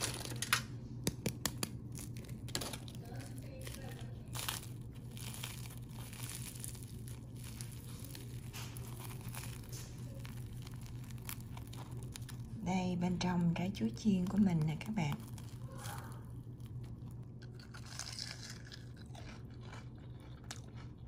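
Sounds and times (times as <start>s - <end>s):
low hum: 0.0s - 21.0s
fried batter crackling: 1.4s - 19.8s.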